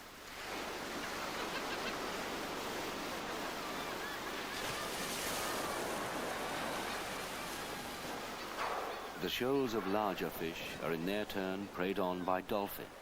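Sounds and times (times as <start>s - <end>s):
sea waves washing: 0.0s - 13.0s.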